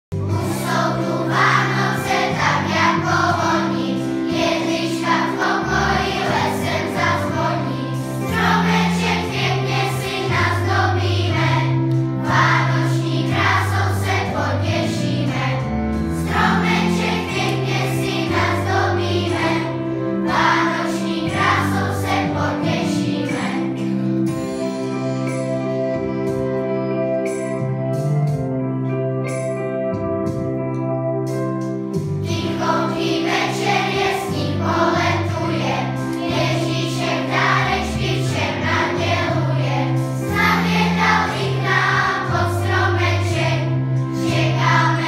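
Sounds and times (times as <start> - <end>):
instrumental accompaniment low notes: 0.1 - 45.0
children's choir singing: 0.2 - 24.1, 32.3 - 45.0.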